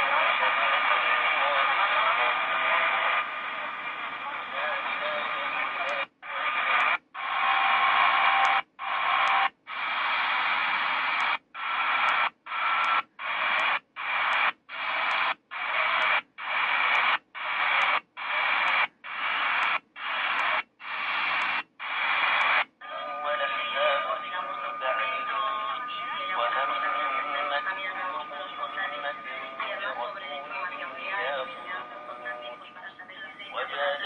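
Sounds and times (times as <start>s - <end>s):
radio static hiss: 0.0s - 34.0s
radio tuning ticks: 0.0s - 34.0s
faint radio whistles: 4.2s - 34.0s.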